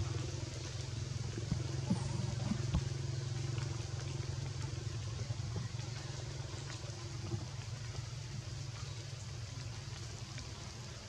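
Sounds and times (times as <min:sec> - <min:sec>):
rain hissing on leaves: 0:00.0 - 0:11.0.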